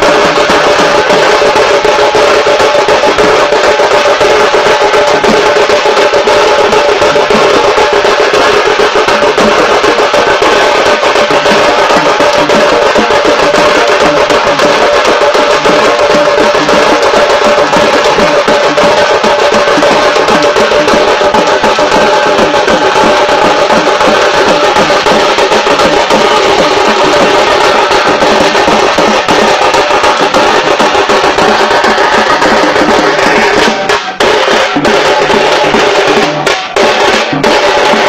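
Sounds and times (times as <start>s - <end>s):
metal drums beaten fast: 0.0s - 38.0s.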